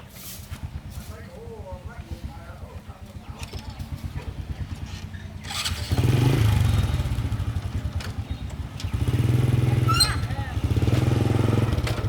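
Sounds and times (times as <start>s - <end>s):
small petrol engine running: 1.6s - 12.0s.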